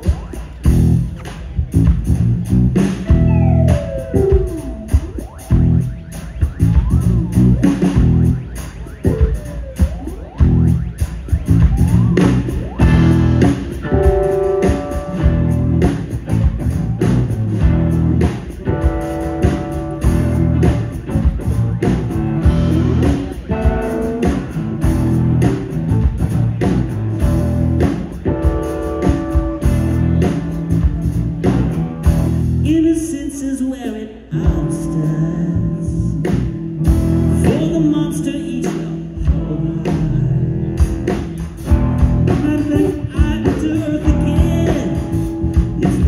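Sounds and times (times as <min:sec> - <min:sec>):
drum kit beat: 0:00.0 - 0:32.9, 0:36.1 - 0:46.0
bass guitar: 0:00.0 - 0:33.2, 0:34.3 - 0:46.0
electric guitar: 0:01.9 - 0:05.9, 0:11.4 - 0:32.9, 0:34.3 - 0:46.0.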